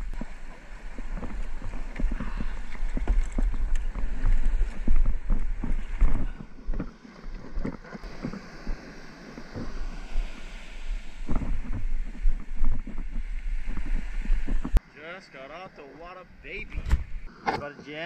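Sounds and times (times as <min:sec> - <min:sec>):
water splashing against hull: 0:00.0 - 0:14.8
wind buffeting microphone: 0:00.0 - 0:14.8
surf washing: 0:00.0 - 0:18.0.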